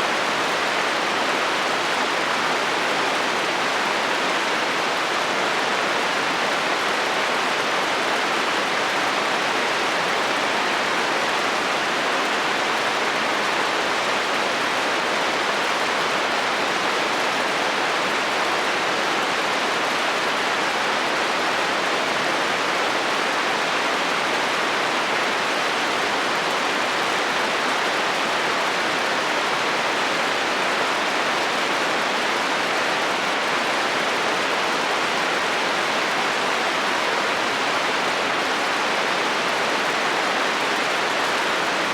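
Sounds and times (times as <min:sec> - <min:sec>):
rain on a metal roof: 0:00.0 - 0:41.9.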